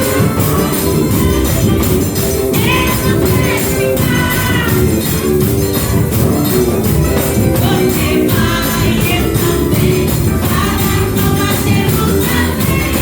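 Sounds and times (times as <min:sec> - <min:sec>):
tambourine beat: 0:00.0 - 0:13.0
voices singing gospel: 0:00.0 - 0:13.0.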